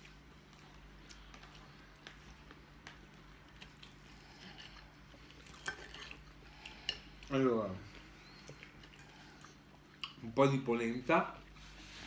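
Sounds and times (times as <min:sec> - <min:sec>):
soft chewing: 0:00.0 - 0:10.4.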